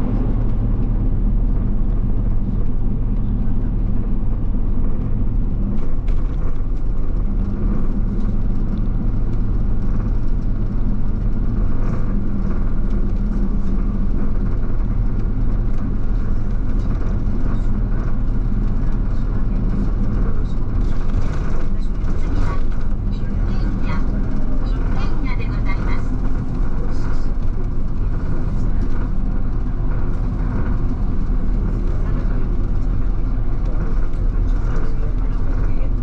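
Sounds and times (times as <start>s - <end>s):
bus engine and road noise: 0.0s - 36.0s.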